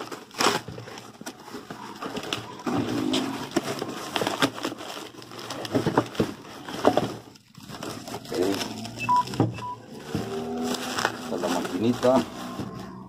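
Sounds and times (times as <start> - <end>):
bubble wrap crackling: 0.0 - 13.0
cardboard box ripping: 0.0 - 13.0.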